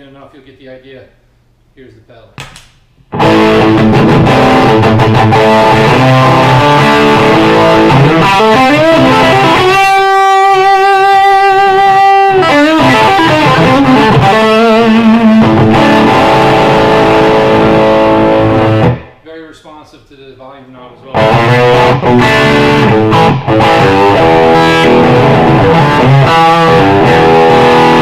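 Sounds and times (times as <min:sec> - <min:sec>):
distorted electric guitar: 0:03.1 - 0:19.2, 0:21.1 - 0:28.0.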